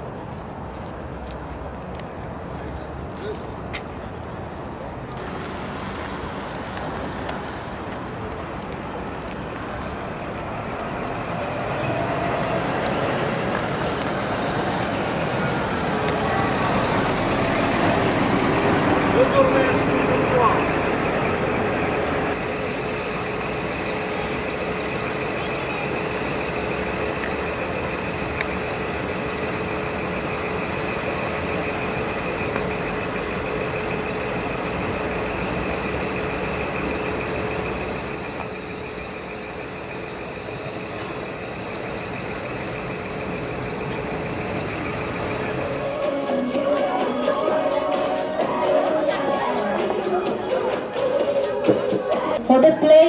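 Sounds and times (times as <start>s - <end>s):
bus engine idling: 0.0s - 53.0s.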